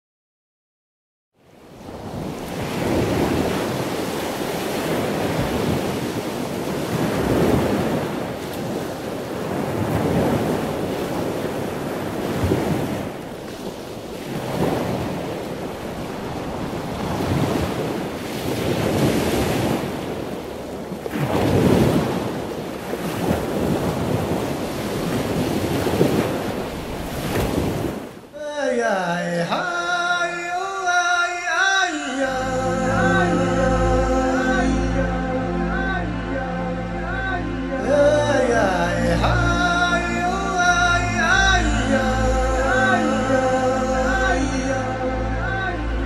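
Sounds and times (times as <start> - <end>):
ocean waves washing in: 1.4 - 28.4, 30.1 - 46.0.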